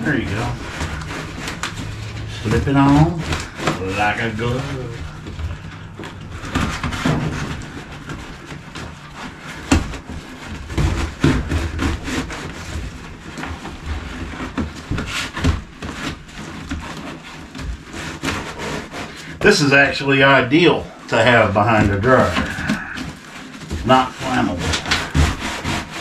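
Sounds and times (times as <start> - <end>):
foil duct crinkling and rustling: 0.0 - 26.0.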